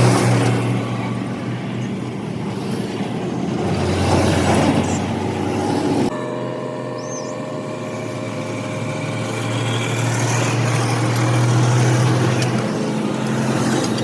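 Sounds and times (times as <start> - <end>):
rumbling vehicle engine: 0.0 - 14.0.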